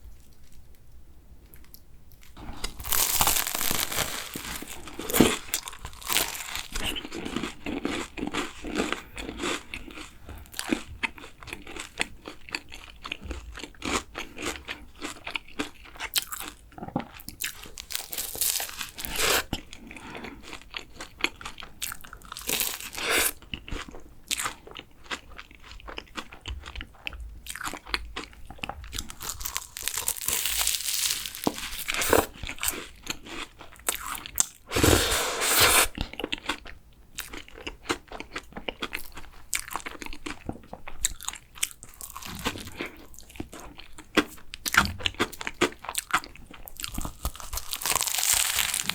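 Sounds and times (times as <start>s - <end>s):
biting and chewing pastry: 1.6s - 35.2s, 35.8s - 48.9s.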